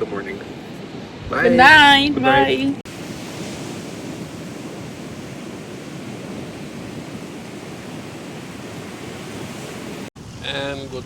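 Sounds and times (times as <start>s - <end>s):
sea surf rushing: 0.0s - 11.0s
wind: 0.0s - 11.0s.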